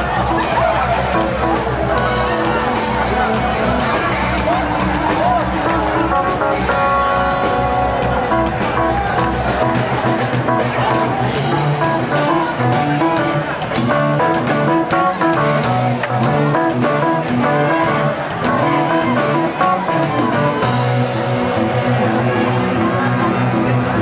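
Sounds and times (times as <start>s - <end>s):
electric guitar: 0.0s - 24.0s
jazz fusion band playing: 0.0s - 24.0s.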